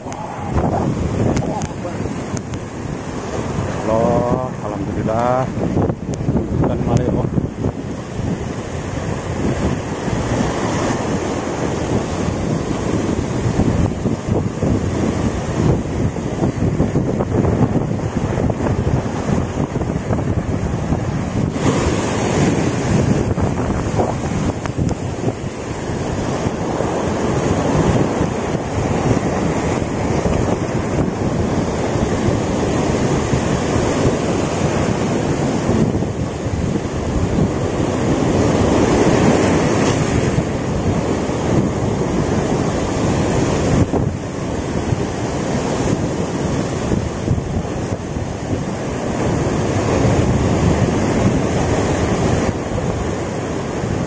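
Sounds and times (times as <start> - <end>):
sea surf breaking: 0.0 - 54.0
wind buffeting microphone: 0.0 - 54.0.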